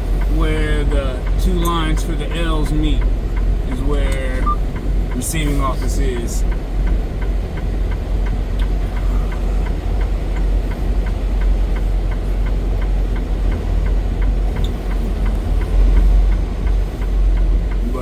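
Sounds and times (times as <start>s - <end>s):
diesel truck engine rumbling: 0.0s - 18.0s
light even ticking: 0.0s - 18.0s.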